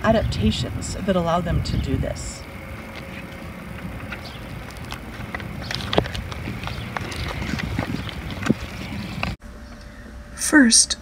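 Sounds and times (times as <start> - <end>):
low wind-like rumble: 0.0 - 10.4.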